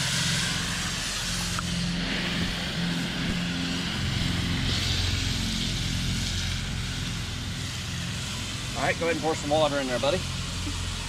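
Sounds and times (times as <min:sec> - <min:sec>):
motor humming: 0:00.0 - 0:11.0
steady hiss: 0:00.0 - 0:11.0.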